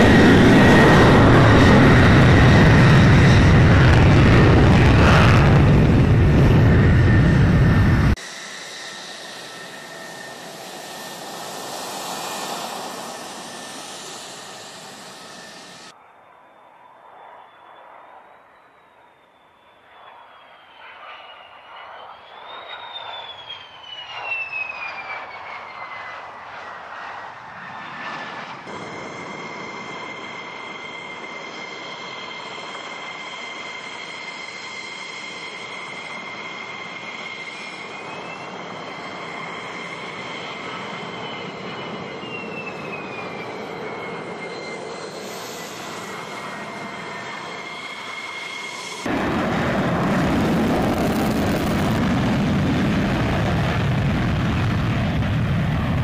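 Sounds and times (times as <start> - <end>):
close-up jet engine roar: 0.0 - 56.0
jet engine whine and roar: 0.0 - 56.0.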